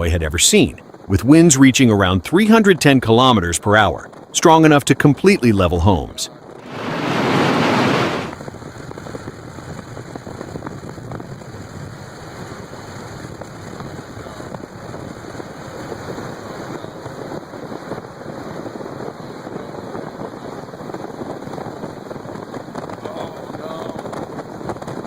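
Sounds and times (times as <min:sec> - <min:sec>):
wind and rain on microphone: 0:00.0 - 0:25.0.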